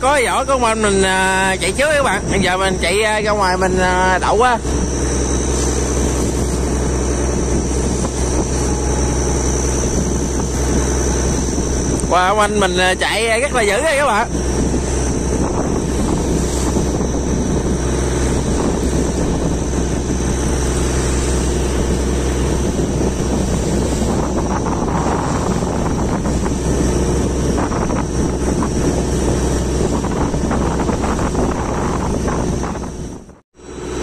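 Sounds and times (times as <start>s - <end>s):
boat engine droning: 0.0s - 34.0s
wind noise on microphone: 0.0s - 34.0s.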